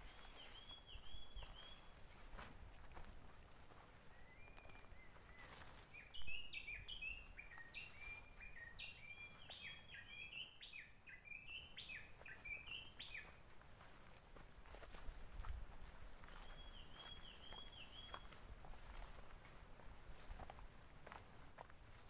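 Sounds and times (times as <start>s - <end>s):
bird chirping: 0.0s - 2.0s, 3.4s - 15.1s, 15.8s - 19.2s, 21.3s - 22.0s.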